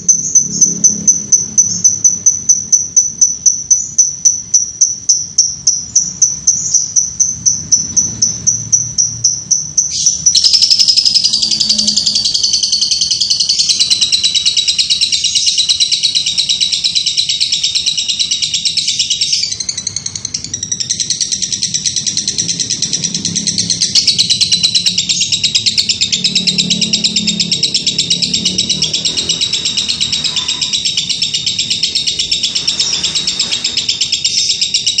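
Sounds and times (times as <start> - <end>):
lovebird chirping and chattering: 0.0 - 35.0.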